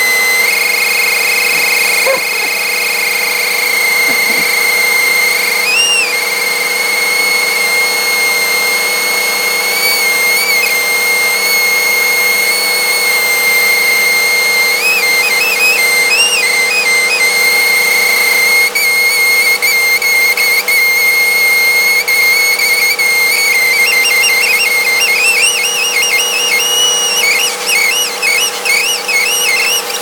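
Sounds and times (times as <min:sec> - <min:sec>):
high-pitched whistle: 0:00.0 - 0:30.0
vacuum cleaner motor hum: 0:00.0 - 0:30.0.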